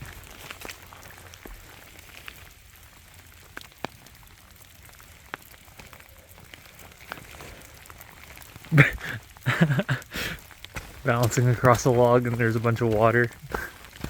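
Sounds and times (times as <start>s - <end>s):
rain hiss in forest: 0.0s - 14.0s
raindrops landing close by: 0.0s - 14.0s.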